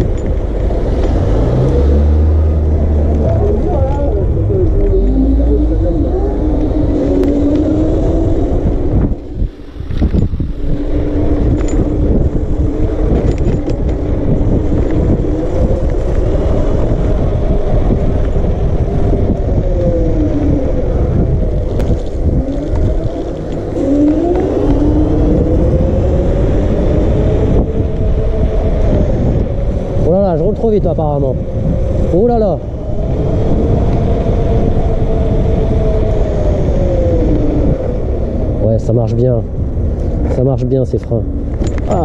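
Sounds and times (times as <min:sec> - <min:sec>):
wind rumble on microphone: 0:00.0 - 0:42.0
electric scooter motor whining: 0:01.7 - 0:40.4.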